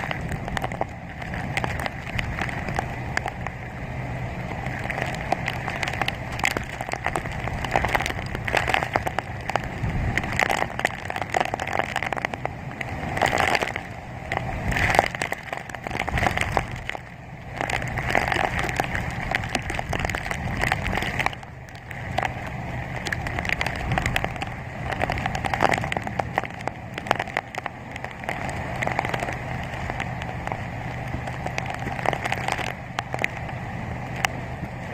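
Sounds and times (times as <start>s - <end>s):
heavy rain on hard surfaces: 0.0s - 34.9s
low steady hum: 0.0s - 34.9s
strong wind: 0.0s - 34.9s.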